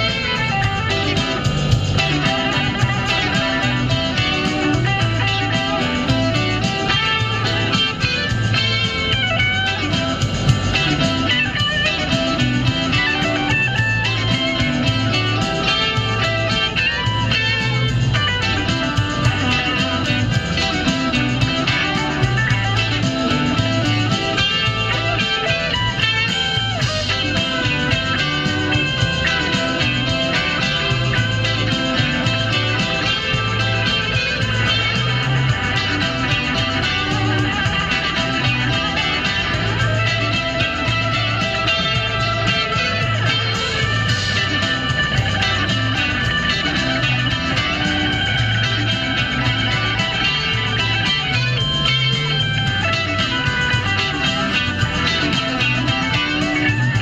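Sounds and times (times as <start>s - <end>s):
repeating bass line: 0.0s - 57.0s
rock music with guitar: 0.0s - 57.0s.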